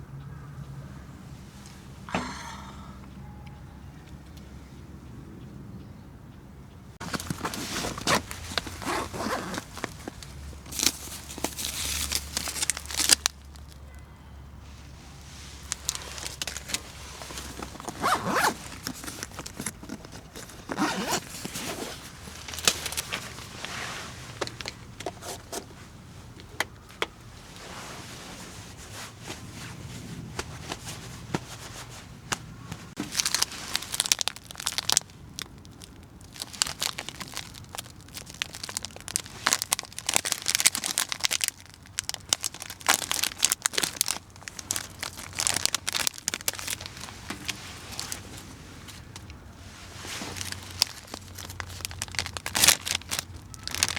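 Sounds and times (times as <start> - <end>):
rustling and crinkling packaging: 7.0 - 14.0, 14.6 - 53.9.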